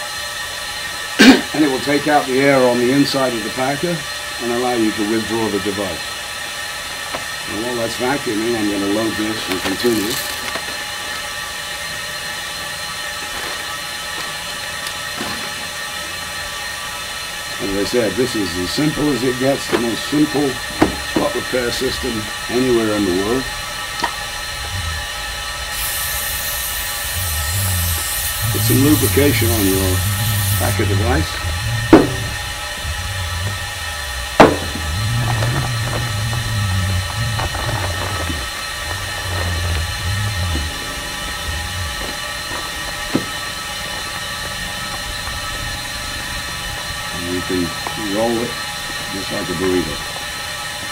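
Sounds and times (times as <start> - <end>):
vacuum unit hissing: 0.0 - 50.9.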